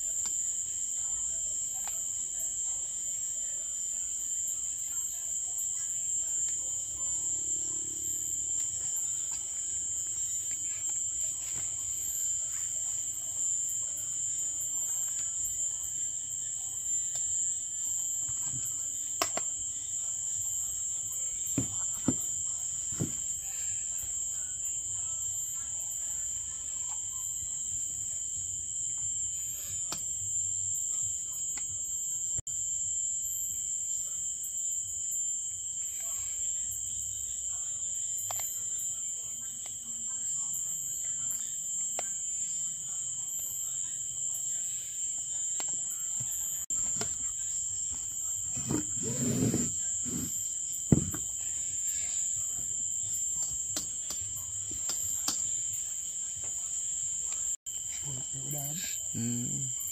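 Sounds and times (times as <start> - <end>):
insect chorus shrill: 0.1 - 31.6, 34.6 - 59.9.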